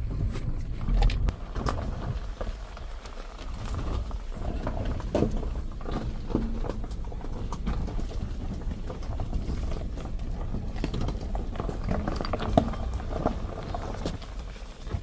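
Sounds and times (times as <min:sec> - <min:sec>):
car rumbling on gravel track: 0:00.0 - 0:15.0.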